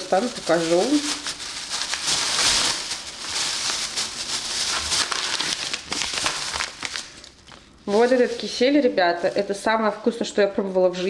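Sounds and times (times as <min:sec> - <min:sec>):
plastic bags rustling: 0:00.0 - 0:10.1.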